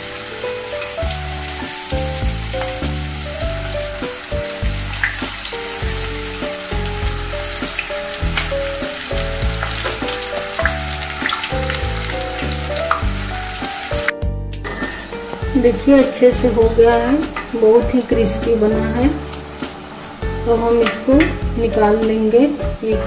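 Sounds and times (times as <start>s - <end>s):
food deep-frying in oil: 0.0s - 14.1s, 14.7s - 23.0s
background music with bass line: 1.0s - 23.0s.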